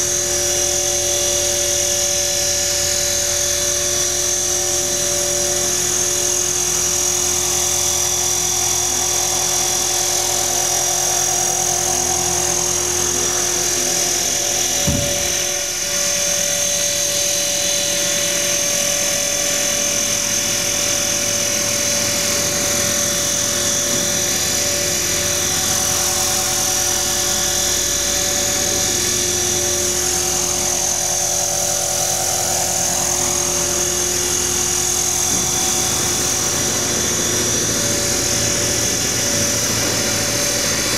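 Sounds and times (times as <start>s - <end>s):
electric motor high-pitched whine: 0.0s - 40.9s
rotors humming: 4.2s - 40.9s.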